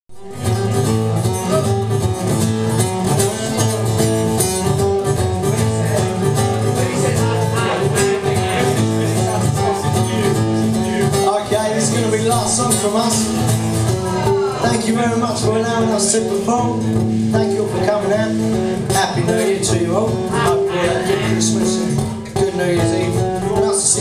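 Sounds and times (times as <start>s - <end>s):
live rock and roll band: 0.2s - 24.0s.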